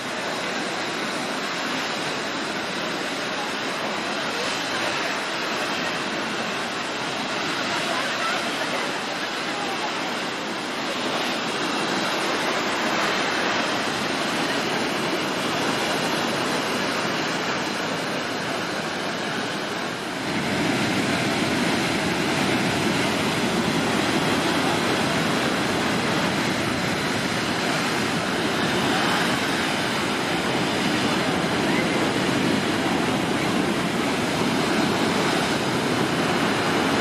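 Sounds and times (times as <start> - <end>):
breaking surf: 0.0 - 37.0.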